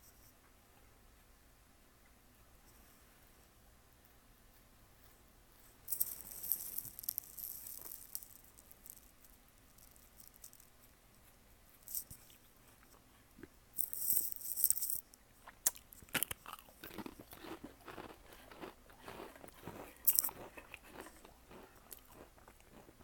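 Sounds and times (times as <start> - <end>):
cat crunching a crisp: 4.6 - 23.0.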